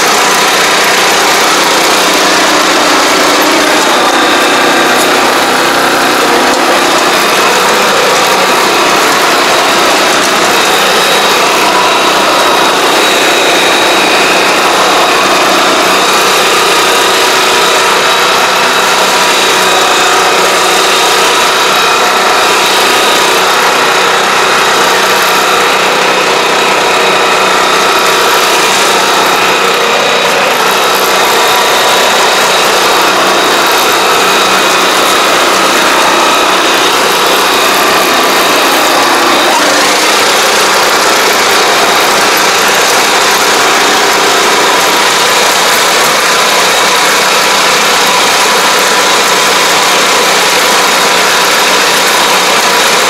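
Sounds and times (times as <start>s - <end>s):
high whine: 0.0s - 53.0s
small engine running: 0.0s - 53.0s.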